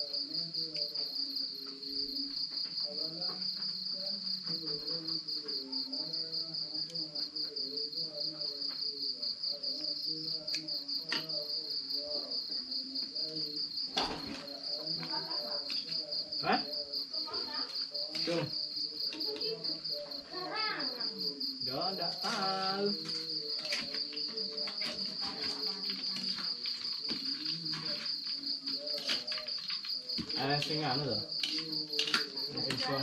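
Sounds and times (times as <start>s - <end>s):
cricket trilling: 0.0s - 33.0s.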